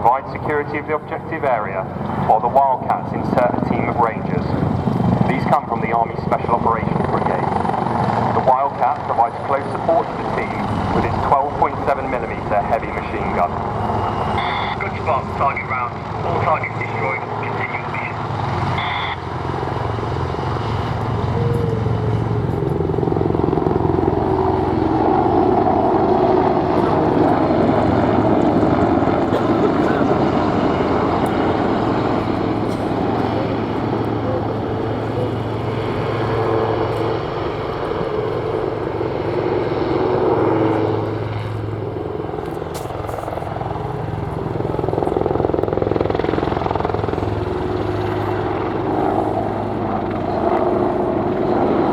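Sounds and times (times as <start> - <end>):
helicopter rotor and turbine: 0.0 - 51.9.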